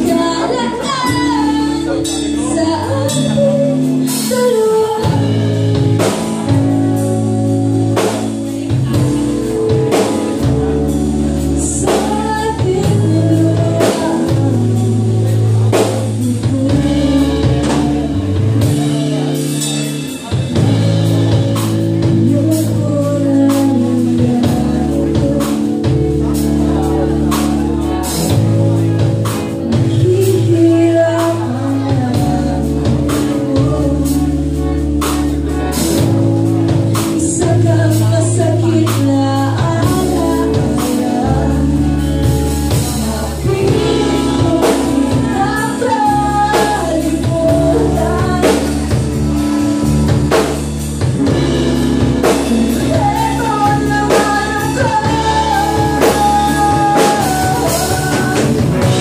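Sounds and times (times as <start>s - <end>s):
bass guitar: 0.0s - 59.0s
drum kit: 0.0s - 59.0s
electric guitar: 0.0s - 59.0s
woman singing into microphone: 0.0s - 59.0s.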